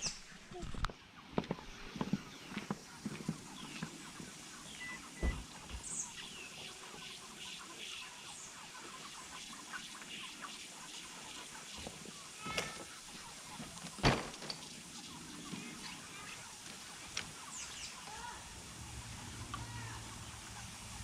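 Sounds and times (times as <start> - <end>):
chickens clucking and peeping: 0.0 - 21.0.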